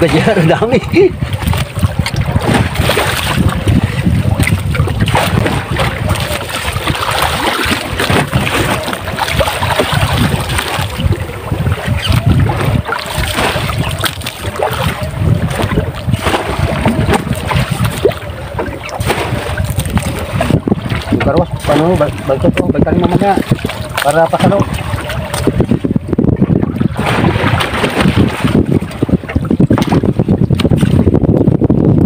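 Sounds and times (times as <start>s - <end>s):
water splashing against hull: 0.0s - 32.0s
wind buffeting microphone: 0.0s - 32.0s.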